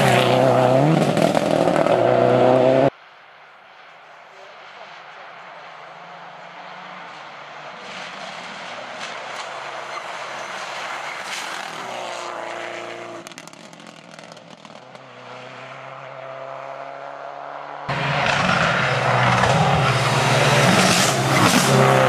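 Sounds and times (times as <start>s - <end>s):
rally car engine passing: 0.0s - 3.0s, 5.6s - 22.0s.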